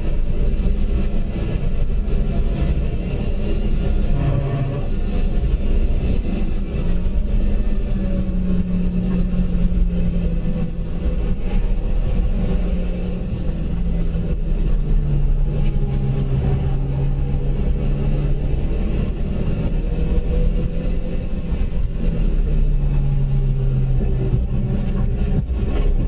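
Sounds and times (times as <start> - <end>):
car engine under load: 0.0 - 26.0
road and tyre noise: 0.0 - 26.0.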